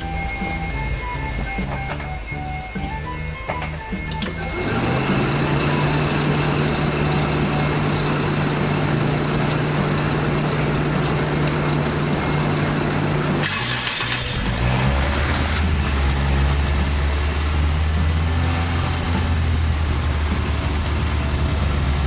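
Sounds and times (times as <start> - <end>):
car engine fast idle: 4.3 - 22.0.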